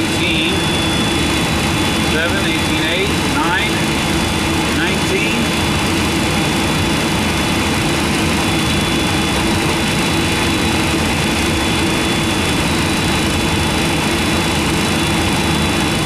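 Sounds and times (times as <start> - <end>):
jet engine roar with high whine: 0.0 - 16.0.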